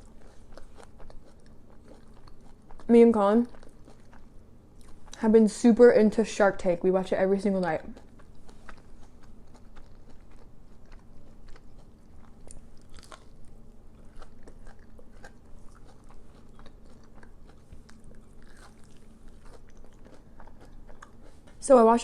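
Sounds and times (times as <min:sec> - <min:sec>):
chewing crunchy food: 0:00.0 - 0:05.3, 0:07.5 - 0:22.0.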